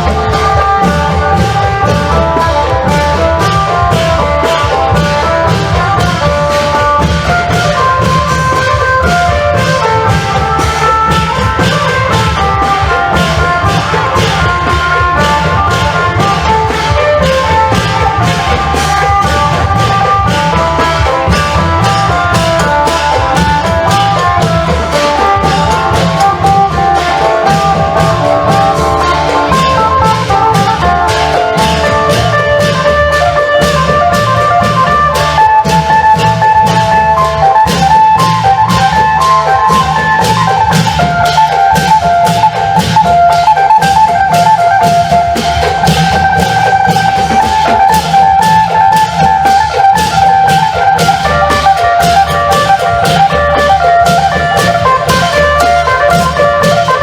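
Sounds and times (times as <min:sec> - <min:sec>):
long drums and percussion: 0:00.0 - 0:57.0.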